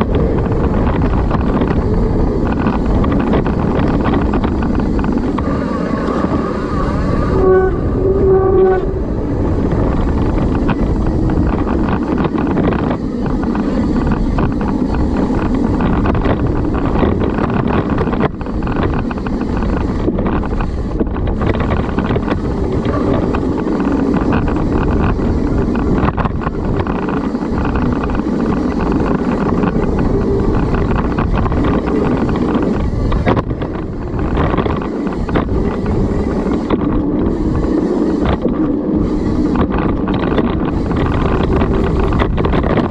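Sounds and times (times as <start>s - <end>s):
bike rattle: 0.0s - 42.9s
bike tyres rumbling: 0.0s - 42.9s
wind rush on microphone: 0.0s - 42.9s.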